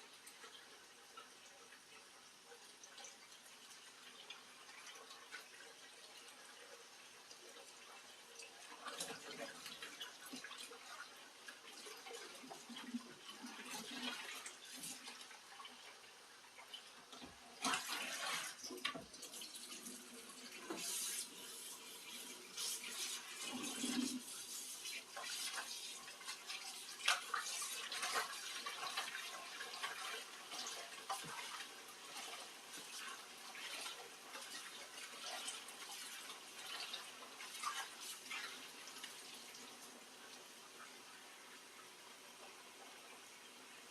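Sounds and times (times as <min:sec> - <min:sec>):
tap water running: 0:00.0 - 0:43.9.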